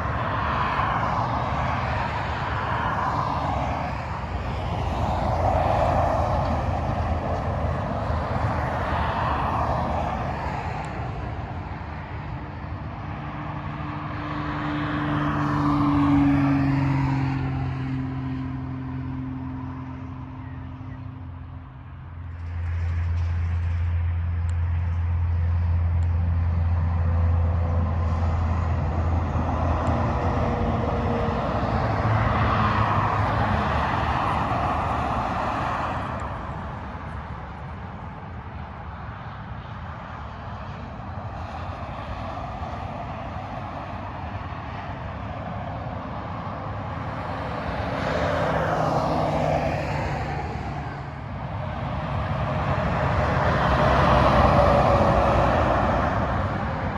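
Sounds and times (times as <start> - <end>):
heavy vehicle engine drone: 0.0 - 56.9
vehicles passing with tyre noise: 0.0 - 56.9.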